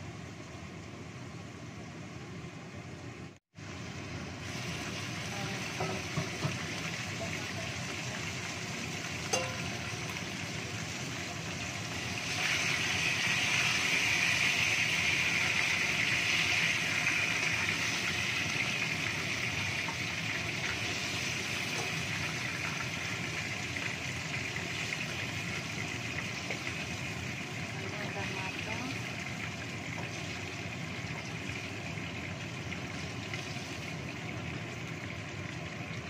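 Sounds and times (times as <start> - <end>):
fish sizzling in hot oil: 3.5 - 36.0.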